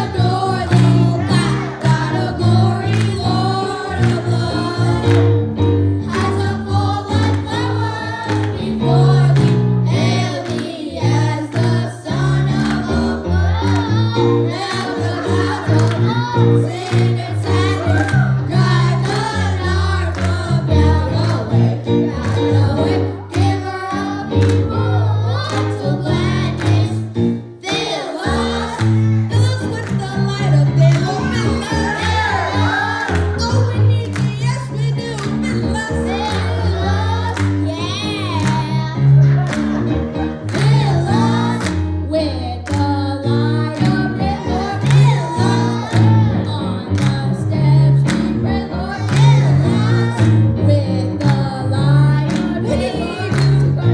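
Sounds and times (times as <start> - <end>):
bass line: 0.0 - 53.9
voices singing gospel song: 0.0 - 53.9.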